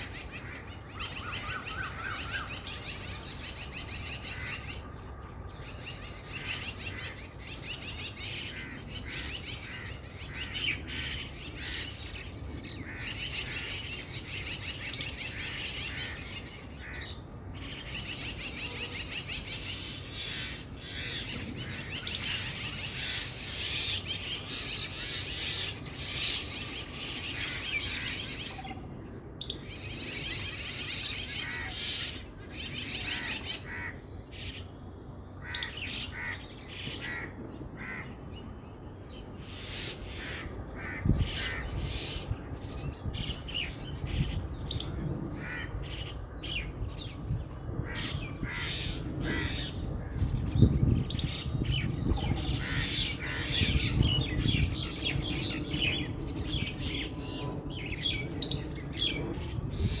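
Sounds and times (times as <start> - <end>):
mynas chirping and squawking: 5.6 - 34.7, 35.3 - 38.1, 39.2 - 60.0.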